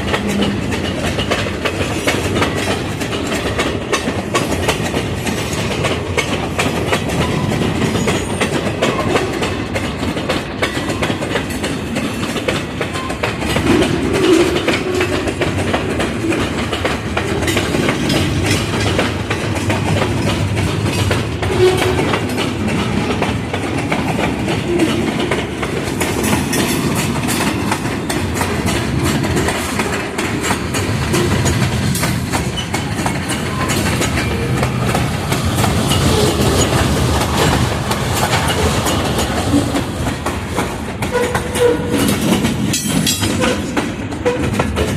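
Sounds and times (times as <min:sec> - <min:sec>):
clickety-clack over rail joints: 0:00.0 - 0:44.9
train wheels rumbling on rail: 0:00.0 - 0:44.9.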